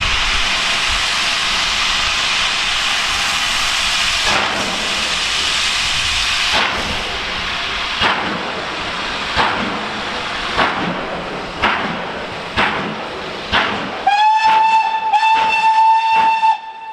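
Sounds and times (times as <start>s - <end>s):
steam hissing: 0.0s - 16.9s
steam locomotive exhaust beats: 0.0s - 16.9s.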